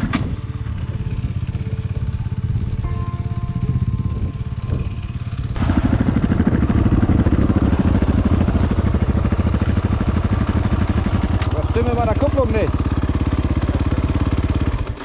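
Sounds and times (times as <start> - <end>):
dirt bike engine idling: 0.0 - 15.0.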